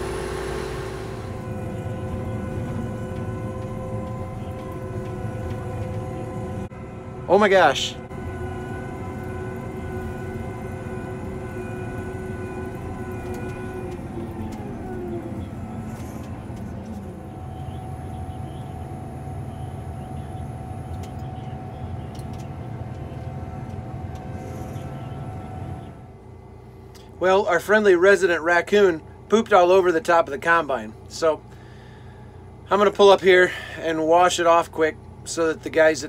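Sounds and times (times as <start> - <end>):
combine harvester hum: 0.0 - 36.0
machine whining tones: 0.0 - 36.0.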